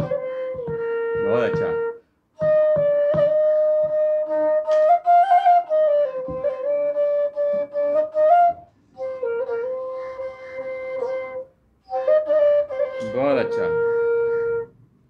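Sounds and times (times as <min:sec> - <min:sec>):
bamboo flute melody: 0:00.0 - 0:14.8.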